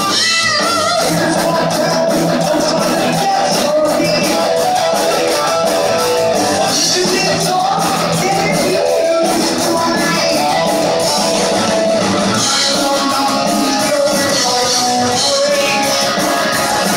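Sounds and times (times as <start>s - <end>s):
heavy metal band playing live: 0.0s - 16.9s.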